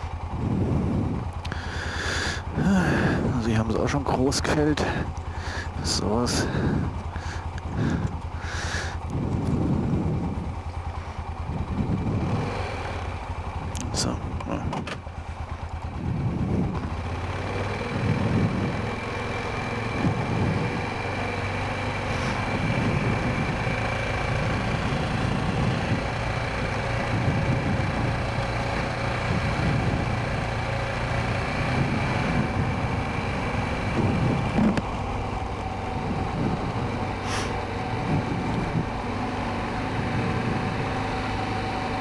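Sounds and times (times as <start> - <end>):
quad bike engine running: 0.0 - 42.0.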